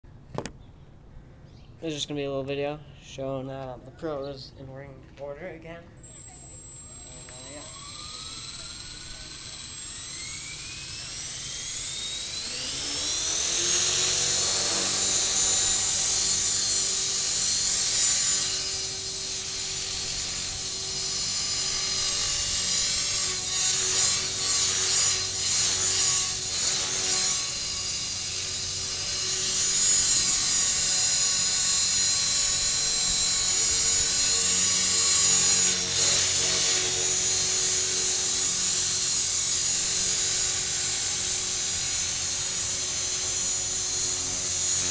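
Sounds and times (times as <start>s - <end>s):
rc helicopter rotor whine: 5.5s - 44.9s.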